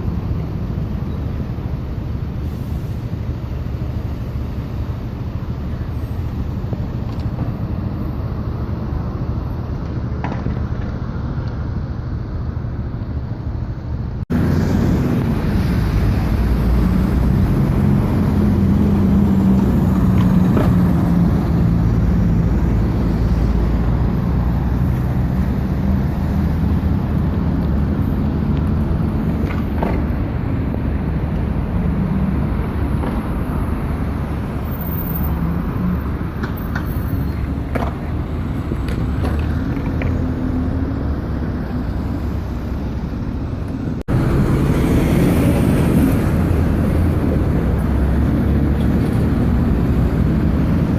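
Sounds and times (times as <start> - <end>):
diesel bus engines: 0.0 - 50.9
road traffic rumble: 0.0 - 50.9.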